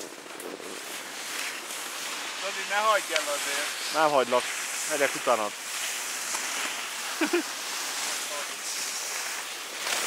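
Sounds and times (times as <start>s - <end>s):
skis scraping over snow: 0.0s - 10.0s.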